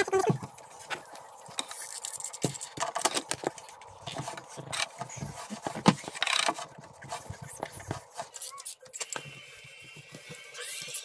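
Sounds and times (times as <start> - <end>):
clicks taps and rustling: 0.0 - 9.2.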